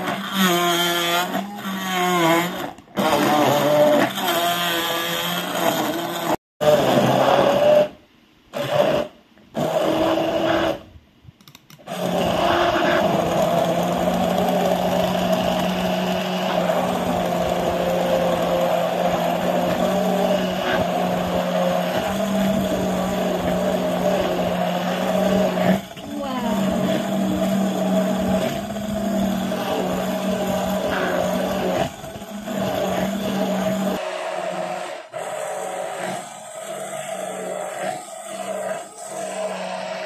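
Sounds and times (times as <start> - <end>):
immersion blender running: 0.0 - 10.8, 11.8 - 40.0.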